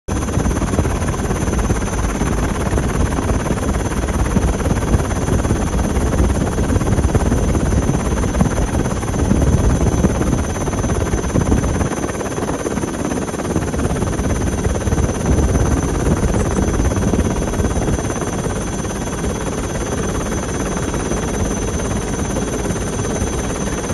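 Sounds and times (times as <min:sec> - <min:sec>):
helicopter rotor and engine: 0:00.1 - 0:23.9.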